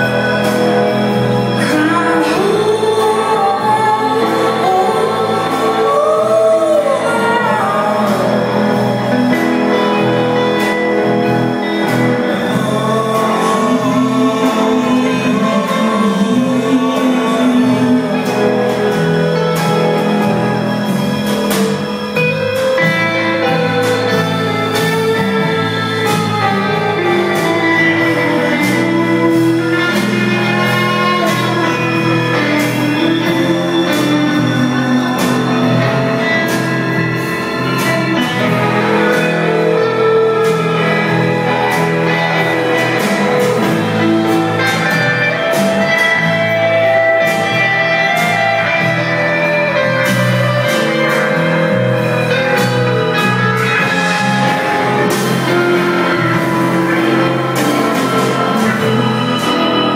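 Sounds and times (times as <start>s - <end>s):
drums: 0.0s - 59.9s
guitars: 0.0s - 59.9s
live band playing: 0.0s - 59.9s.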